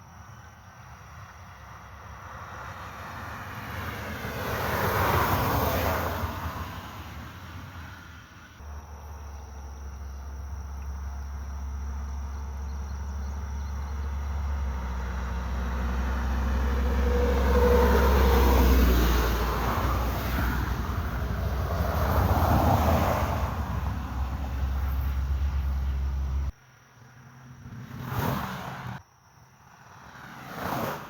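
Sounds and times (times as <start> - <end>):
vehicles passing on road: 0.0 - 31.0.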